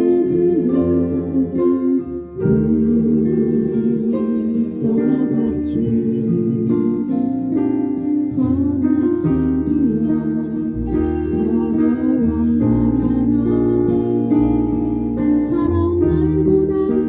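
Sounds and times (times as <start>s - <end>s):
slow instrumental song: 0.0s - 17.0s.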